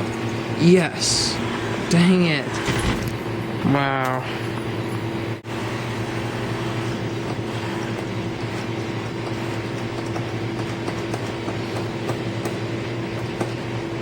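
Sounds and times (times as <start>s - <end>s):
claw machine humming: 0.0s - 14.0s.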